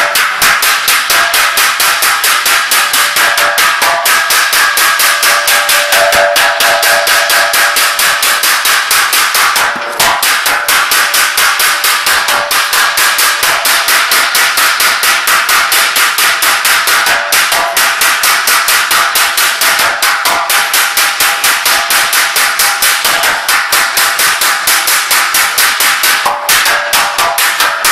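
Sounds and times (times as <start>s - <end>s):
hammers clanging on sheet metal: 0.0s - 27.9s.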